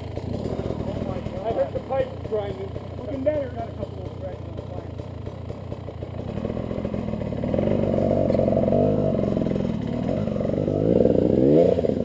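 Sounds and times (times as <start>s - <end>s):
dirt bike engine revving: 0.0s - 3.8s, 4.9s - 12.0s.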